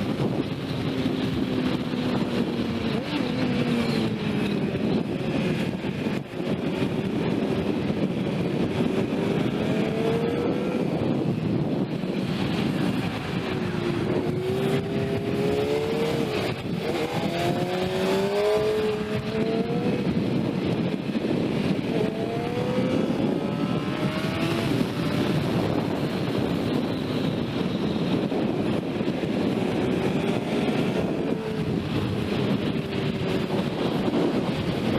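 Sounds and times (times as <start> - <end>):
motorcycle engine revving through gears: 0.0 - 34.9
wind rushing: 0.0 - 34.9.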